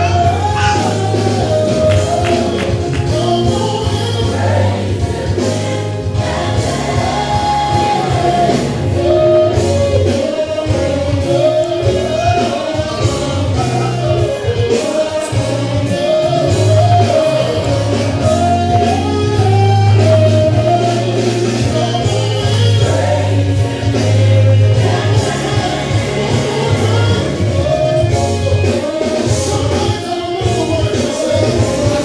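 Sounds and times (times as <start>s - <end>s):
gospel group singing: 0.0s - 32.0s
heavy bass line: 0.0s - 32.0s.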